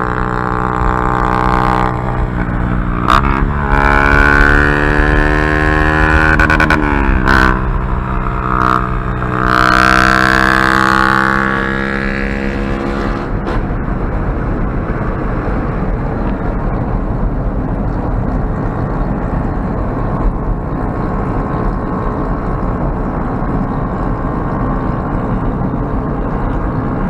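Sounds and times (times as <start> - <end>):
motorcycle engine with loud exhaust: 0.0 - 27.0.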